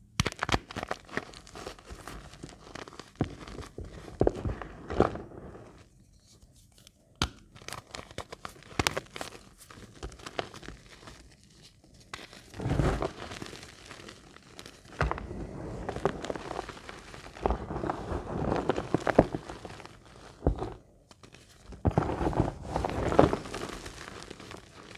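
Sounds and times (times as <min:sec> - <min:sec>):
chalk crumbling crunches: 0:00.3 - 0:05.9, 0:07.6 - 0:24.9.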